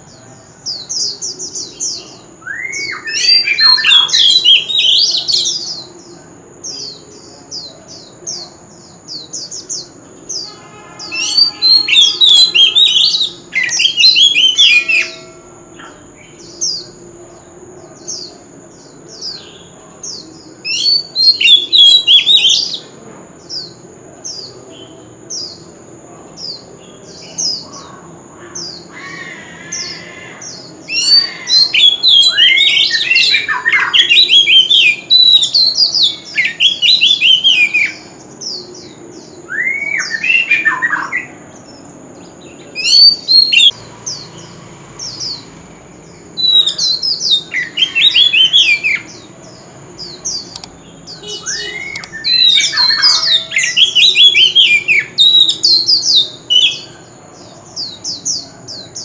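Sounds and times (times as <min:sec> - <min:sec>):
bird singing and warbling: 0:00.0 - 0:59.0.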